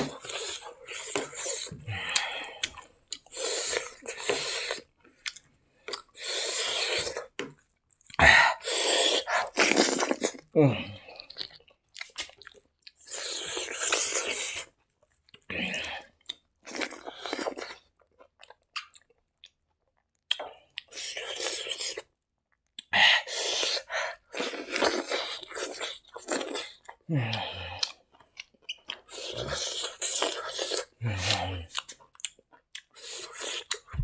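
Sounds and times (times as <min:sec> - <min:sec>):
person chewing rice: 0:00.0 - 0:10.5, 0:11.2 - 0:22.1, 0:22.7 - 0:34.0.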